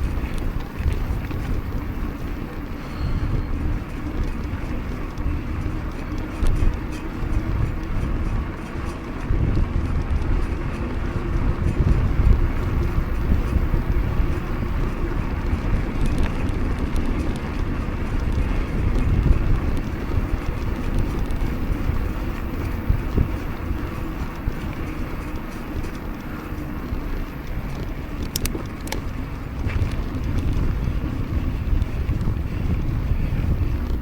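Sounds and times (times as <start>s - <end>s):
bike tyres rumbling on pavement: 0.0s - 34.0s
wind buffeting microphone: 0.0s - 34.0s.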